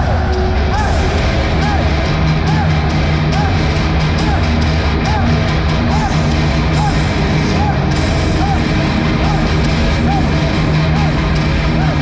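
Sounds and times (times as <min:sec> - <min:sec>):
bass notes: 0:00.0 - 0:12.0
heavy metal band playing: 0:00.0 - 0:12.0.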